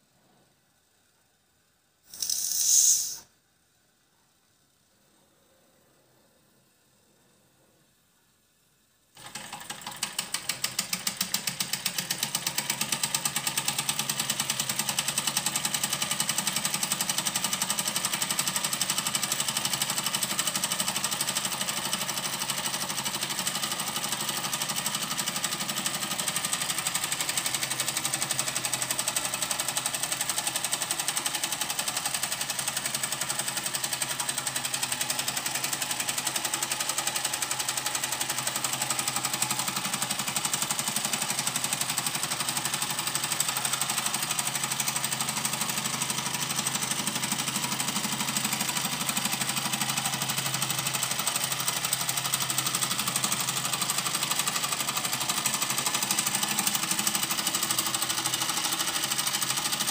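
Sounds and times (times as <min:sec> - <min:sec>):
toy steam engine chuffing: 0:02.1 - 0:03.3, 0:09.2 - 0:59.9.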